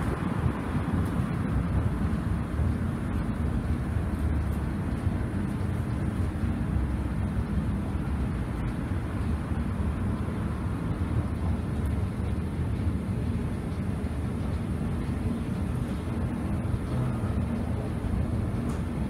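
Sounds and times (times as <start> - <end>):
escalator rumbling: 0.0 - 19.0.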